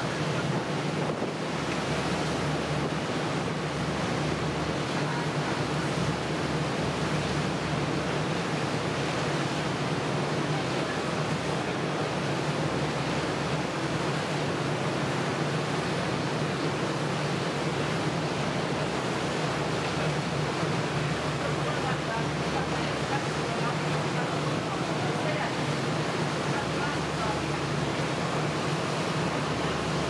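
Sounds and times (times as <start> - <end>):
churned sea water: 0.0 - 30.0.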